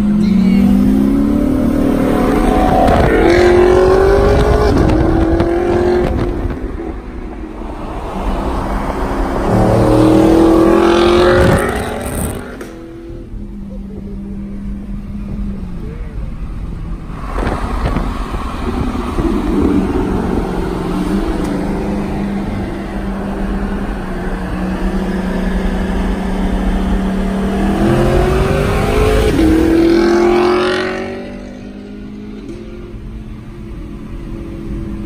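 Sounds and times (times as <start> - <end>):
car exhaust drone accelerating: 0.0 - 35.0
wind and road noise: 0.0 - 35.0.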